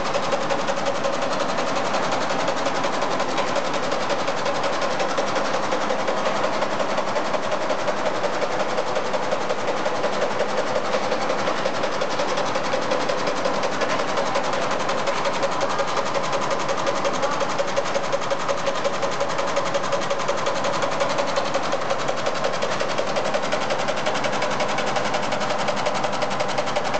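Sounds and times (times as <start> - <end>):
embroidery machine stitching: 0.0 - 26.9.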